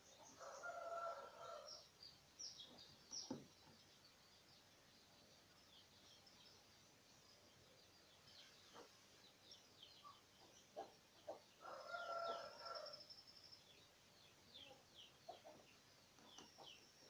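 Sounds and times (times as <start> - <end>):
faint birdsong chirps: 0.0 - 17.0.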